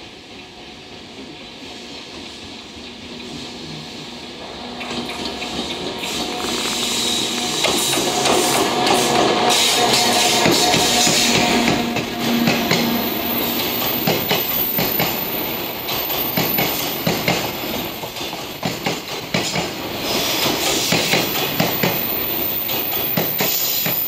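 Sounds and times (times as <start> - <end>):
freight train wheels clattering: 1.0 - 24.0.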